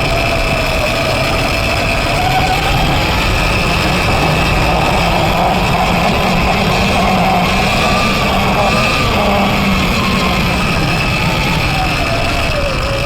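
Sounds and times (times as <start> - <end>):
electric motor whining: 0.0 - 13.0
low rumble over rough ground: 0.0 - 13.0.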